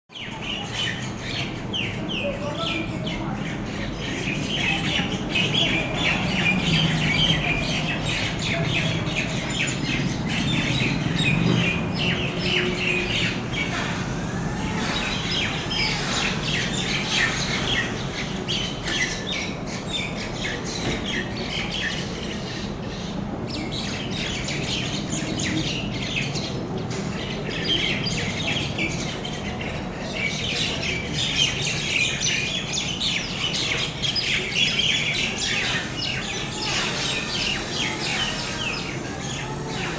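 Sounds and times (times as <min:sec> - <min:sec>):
flock of birds squawking: 0:00.3 - 0:39.9.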